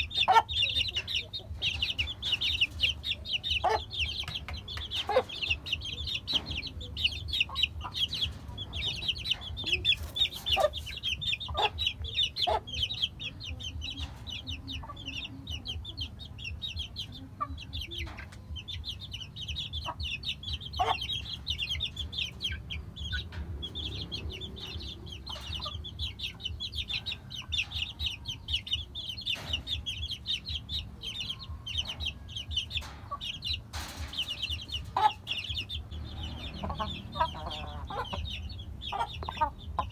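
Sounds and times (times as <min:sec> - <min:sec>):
chicken clucks: 0:00.0 - 0:39.9
chicks peeping: 0:00.0 - 0:39.9.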